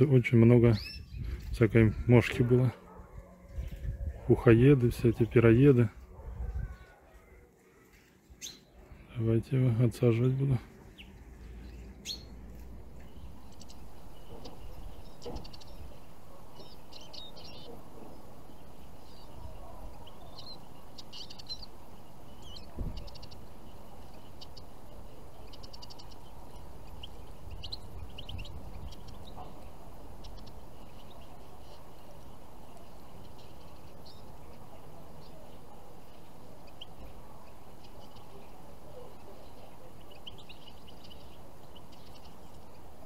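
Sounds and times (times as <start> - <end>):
finches chirping: 0.0 - 43.0
outdoor background noise: 0.0 - 43.0.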